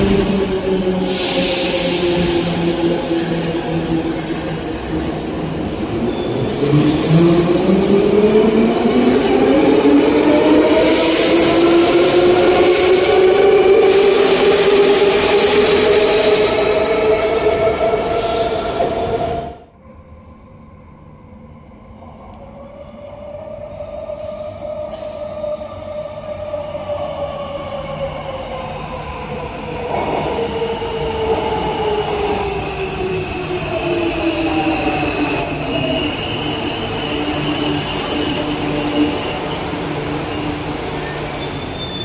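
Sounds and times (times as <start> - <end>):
metro train braking whine: 0.0 - 42.0.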